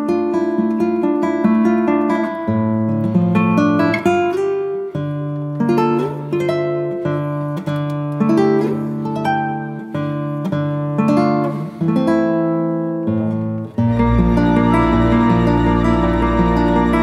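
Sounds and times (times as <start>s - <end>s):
acoustic guitar picking chords: 0.0s - 17.0s.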